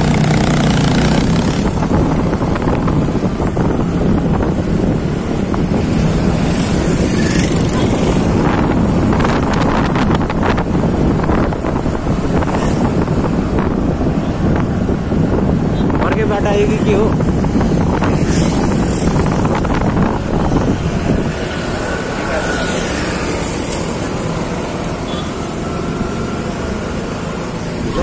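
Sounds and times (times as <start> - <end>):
wind buffeting microphone: 0.0 - 25.0
motorbike engine and road noise: 0.0 - 28.0.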